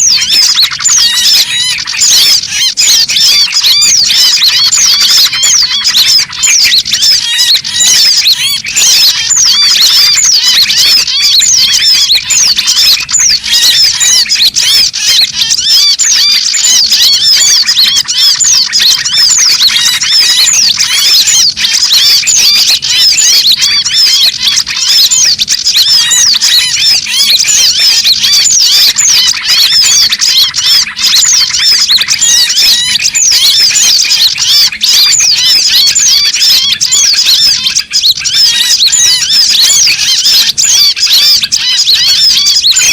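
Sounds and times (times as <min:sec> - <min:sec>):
small songbirds chirping: 0:00.0 - 0:42.9.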